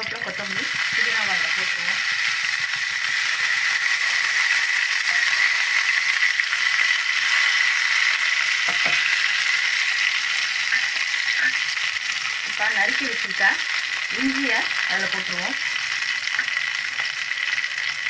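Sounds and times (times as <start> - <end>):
leaves frying in hot oil: 0.0 - 18.0.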